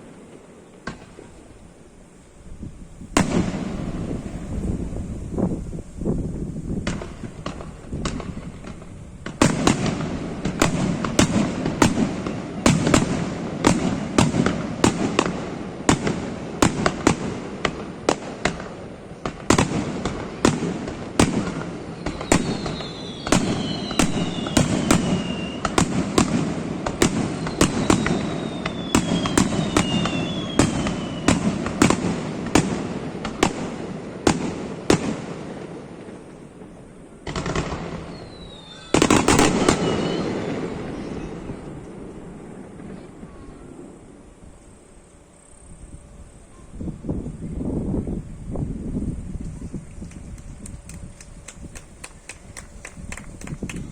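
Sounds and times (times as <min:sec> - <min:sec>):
fireworks bangs: 0:00.0 - 0:44.6
descending firework whistles: 0:00.0 - 0:49.8.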